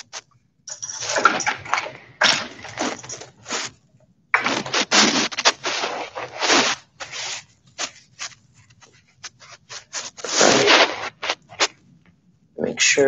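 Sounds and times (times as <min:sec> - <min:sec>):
handling noise on microphone: 0:00.0 - 0:03.8, 0:04.4 - 0:12.1.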